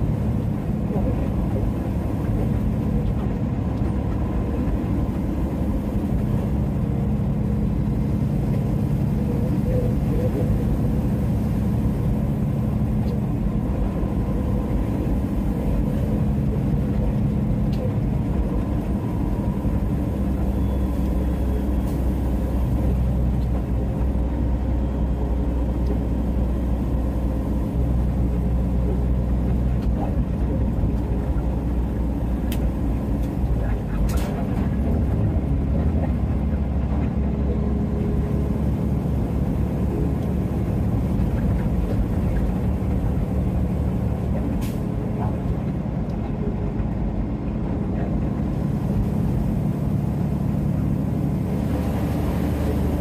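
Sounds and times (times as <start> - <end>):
truck diesel engine droning: 0.0 - 53.0
tyre and road noise: 0.0 - 53.0.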